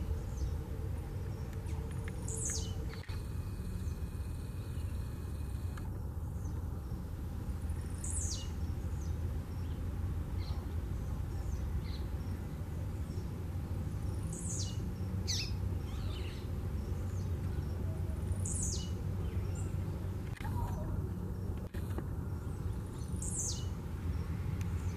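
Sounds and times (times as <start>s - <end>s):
bird singing buzzy song: 0.0s - 24.9s
steady low rumble: 0.0s - 24.9s.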